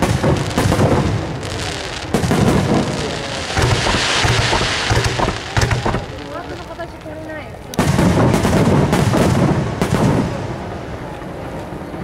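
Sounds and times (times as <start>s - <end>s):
fireworks bursting with deep booms: 0.0s - 12.0s
fireworks crackling hiss: 0.0s - 12.0s.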